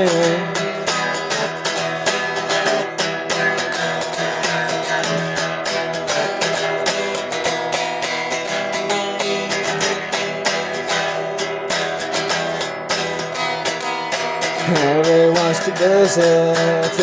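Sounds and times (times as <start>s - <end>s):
guitar strummed: 0.0s - 17.0s.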